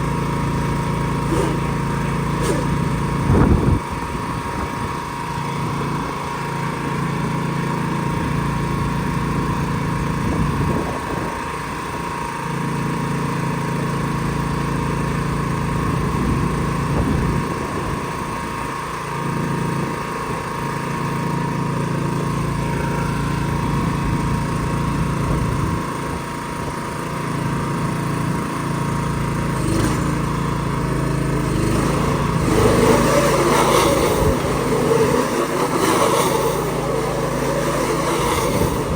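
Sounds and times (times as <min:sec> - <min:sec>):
engine droning: 0:00.0 - 0:38.9.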